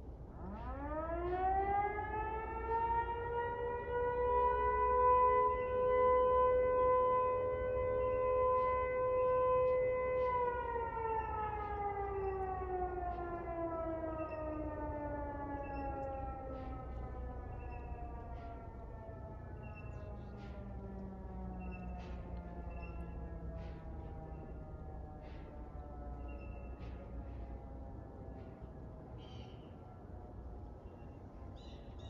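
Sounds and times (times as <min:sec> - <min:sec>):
warning siren howling: 0:00.0 - 0:32.0.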